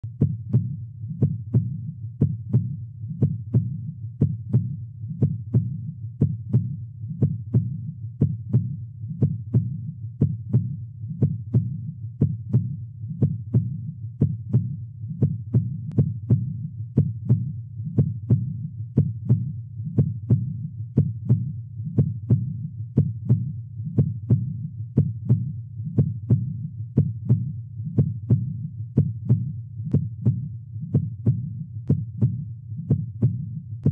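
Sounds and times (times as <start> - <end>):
heartbeat: 0.0 - 33.9.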